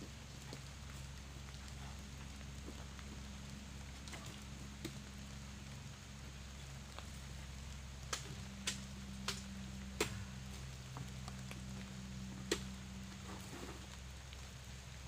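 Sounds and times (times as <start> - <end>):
light drizzle: 0.0 - 15.0
sharp raindrops ticking: 0.0 - 15.0.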